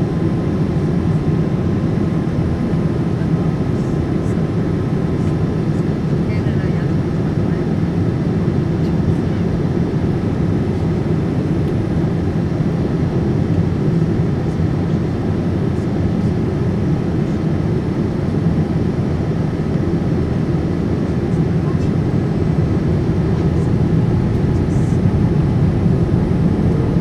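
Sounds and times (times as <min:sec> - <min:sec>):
airplane cabin rumble: 0:00.0 - 0:27.0.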